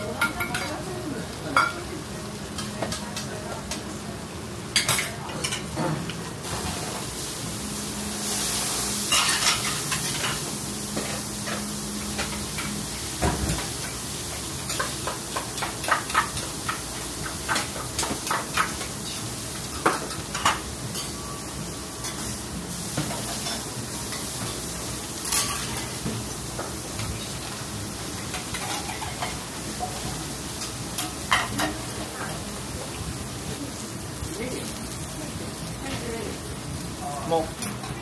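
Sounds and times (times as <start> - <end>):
batter sizzling on a griddle: 0.0 - 38.0.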